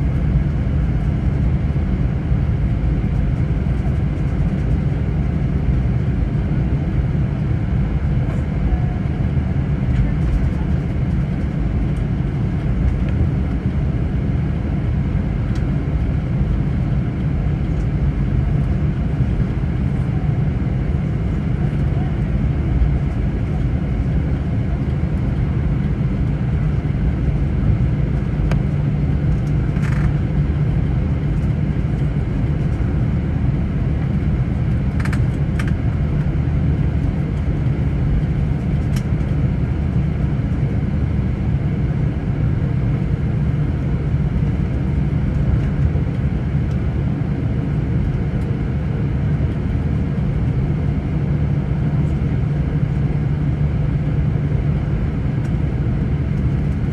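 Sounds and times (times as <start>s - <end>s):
jet engine cabin rumble: 0.0s - 56.9s.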